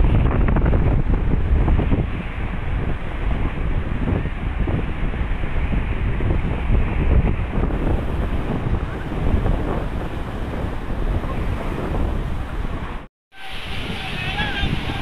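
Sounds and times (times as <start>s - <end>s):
storm waves breaking against seawall: 0.0s - 15.0s
wind buffeting microphone: 0.0s - 15.0s.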